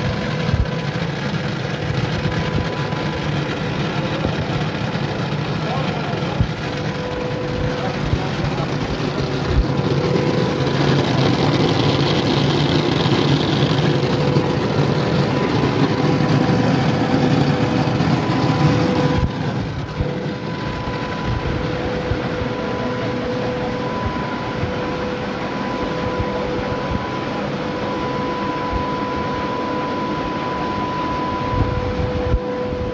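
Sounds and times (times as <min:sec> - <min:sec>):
constant mechanical whine: 0:00.0 - 0:32.9
mill machinery running: 0:00.0 - 0:32.9.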